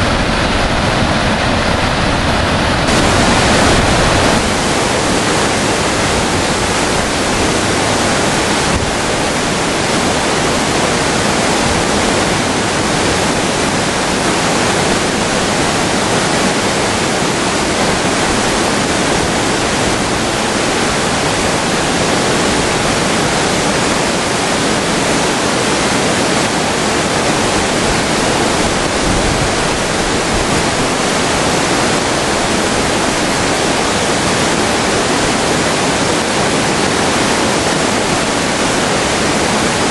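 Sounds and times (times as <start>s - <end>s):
river rapids rushing over boulders: 0.0s - 39.9s.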